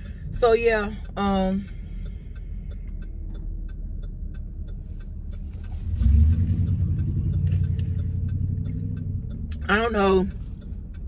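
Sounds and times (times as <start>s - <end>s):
car engine and road rumble: 0.0s - 11.0s
turn signal ticking: 0.0s - 11.0s.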